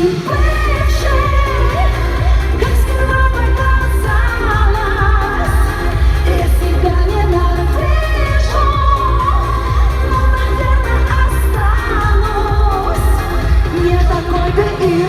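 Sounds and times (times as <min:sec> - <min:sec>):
pop backing track with bass beat: 0:00.0 - 0:15.0
woman singing: 0:00.0 - 0:15.0.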